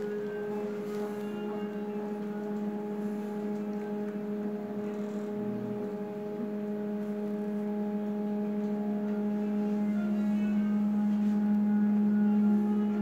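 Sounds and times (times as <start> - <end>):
cnc router humming: 0.0 - 13.0.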